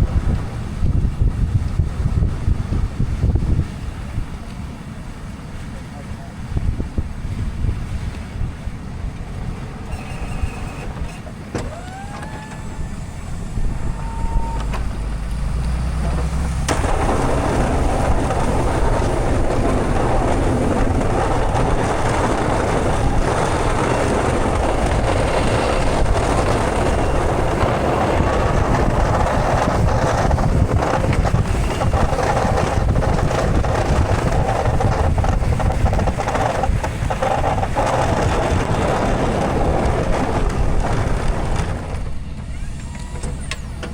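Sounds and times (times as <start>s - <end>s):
vehicle engine road and wind noise: 0.0s - 43.9s.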